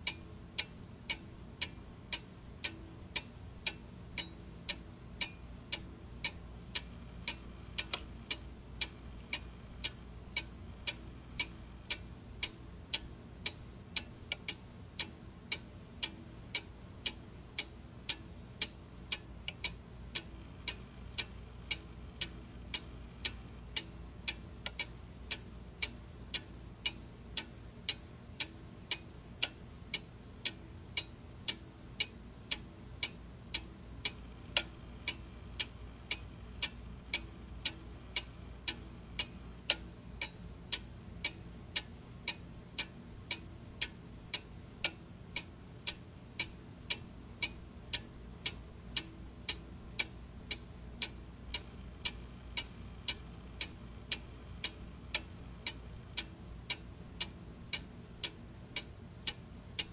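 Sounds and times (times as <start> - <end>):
clockwork ticking: 0.0 - 59.9.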